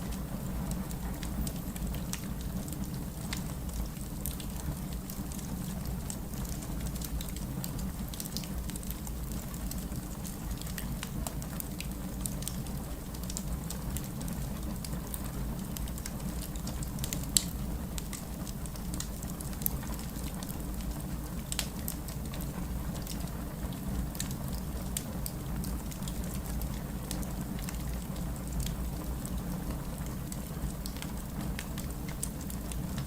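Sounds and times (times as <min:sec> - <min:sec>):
steady rain: 0:00.0 - 0:33.0
wood fire crackling and popping: 0:00.0 - 0:33.0.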